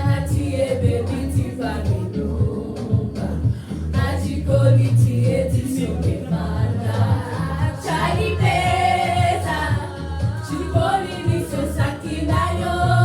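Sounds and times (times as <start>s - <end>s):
steady bass line: 0.0s - 13.0s
voices singing together: 0.0s - 13.0s.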